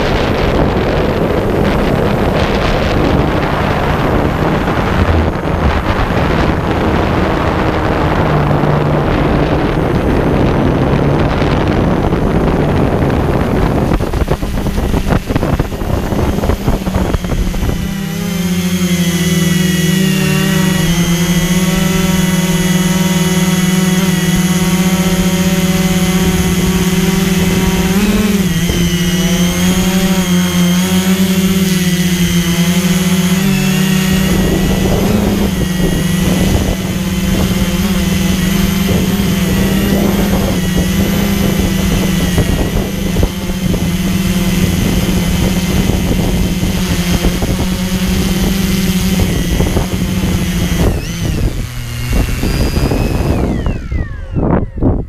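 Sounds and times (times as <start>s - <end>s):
drone motors humming and whining: 0.0s - 55.0s.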